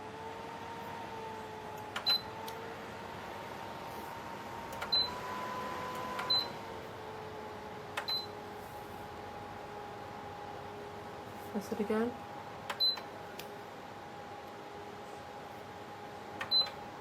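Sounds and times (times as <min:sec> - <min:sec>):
fan motor hum: 0:00.0 - 0:17.0.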